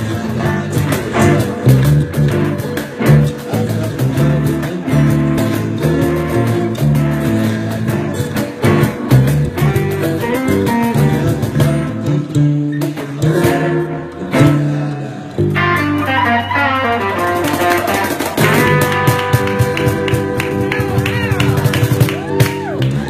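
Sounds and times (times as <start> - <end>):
acoustic guitar: 0.0 - 23.0
electric guitar: 0.0 - 23.0.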